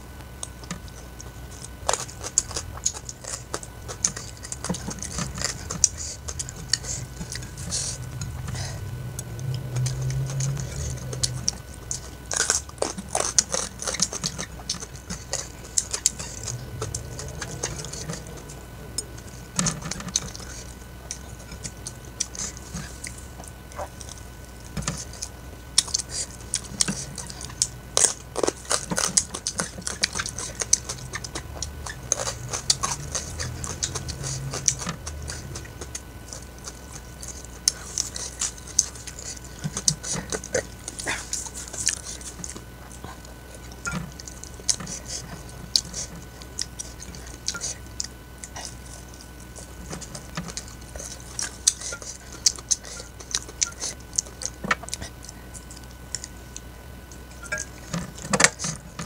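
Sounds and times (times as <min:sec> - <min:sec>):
person chewing fried chicken: 0:00.0 - 0:59.0.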